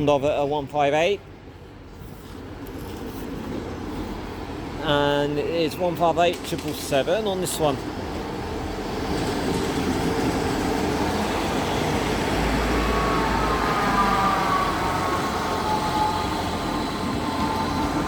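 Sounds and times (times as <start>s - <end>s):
train engine and wheels rumbling: 0.0s - 18.0s.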